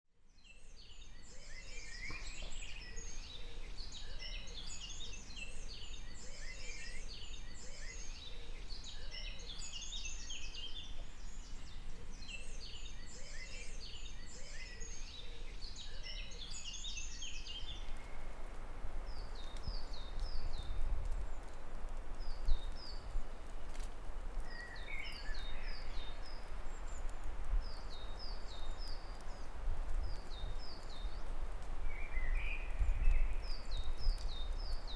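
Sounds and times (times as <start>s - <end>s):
songbirds singing: 0.3s - 18.4s, 19.0s - 34.9s.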